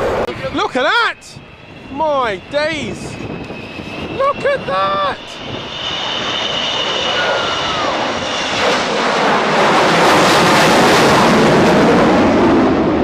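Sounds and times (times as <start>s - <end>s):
aircraft passing low overhead: 0.0s - 13.0s.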